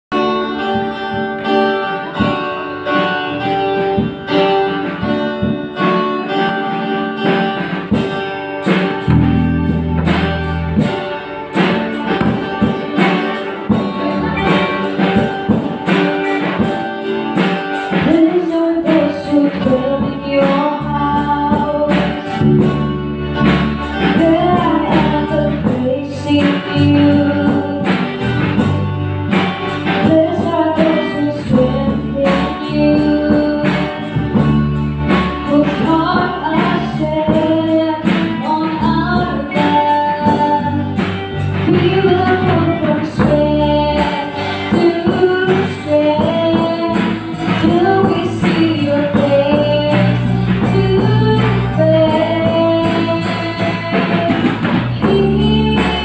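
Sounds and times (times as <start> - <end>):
drum kit beat: 0.1 - 56.0
keyboard: 0.1 - 56.0
strummed acoustic guitar: 0.1 - 56.0
woman singing: 9.0 - 28.8, 29.4 - 56.0.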